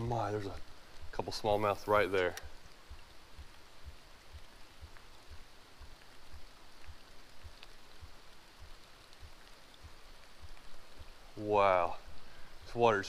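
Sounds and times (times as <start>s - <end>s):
soft low thumps: 0.0s - 12.9s
rain on creek water: 0.0s - 13.0s.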